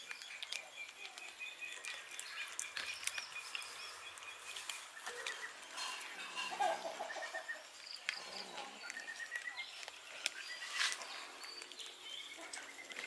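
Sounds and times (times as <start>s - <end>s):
cats eating clicks: 0.0s - 5.6s, 7.8s - 13.0s
birds chirping: 0.0s - 13.0s.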